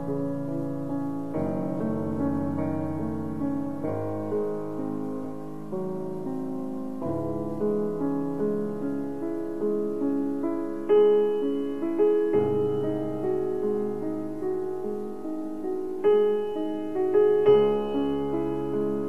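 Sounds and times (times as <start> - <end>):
slow solo piano piece: 0.0 - 19.0.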